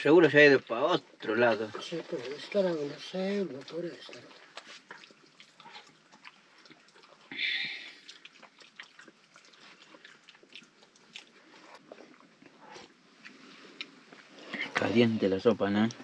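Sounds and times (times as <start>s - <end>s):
chewing: 1.1s - 15.2s.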